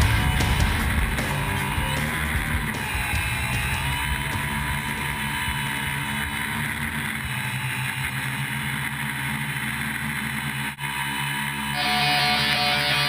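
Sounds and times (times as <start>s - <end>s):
drone propellers whirring: 0.0s - 13.0s.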